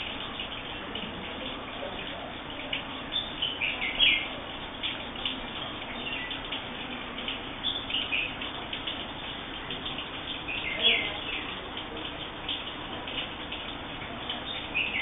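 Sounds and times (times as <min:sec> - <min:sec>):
birds chirping: 0:01.8 - 0:15.0.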